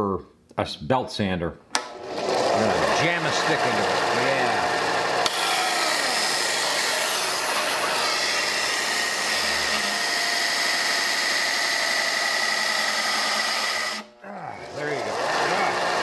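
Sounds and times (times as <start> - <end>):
belt sander running with high whine: 1.9 - 14.0, 14.7 - 16.0.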